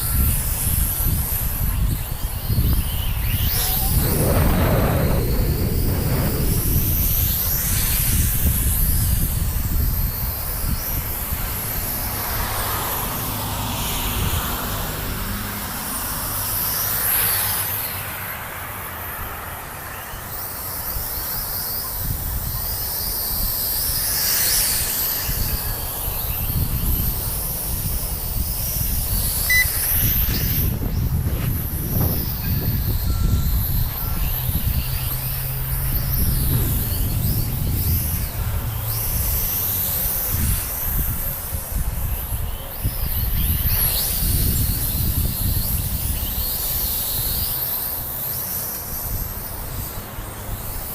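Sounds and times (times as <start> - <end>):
wind buffeting microphone: 0.0 - 17.9, 20.4 - 50.9
quadcopter motors whining: 0.0 - 50.9.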